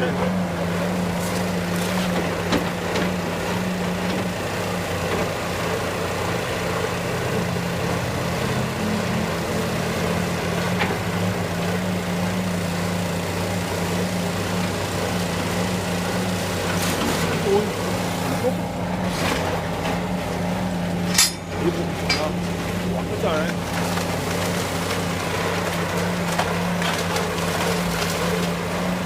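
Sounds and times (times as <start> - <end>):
heavy machinery engine running: 0.0 - 29.0.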